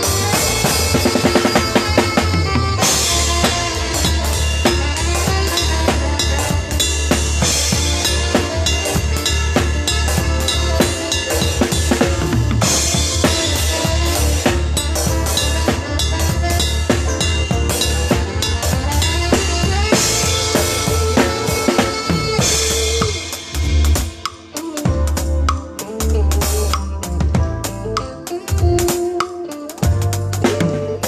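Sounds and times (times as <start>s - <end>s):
drum kit beat: 0.0s - 31.0s
live band playing: 0.0s - 31.0s.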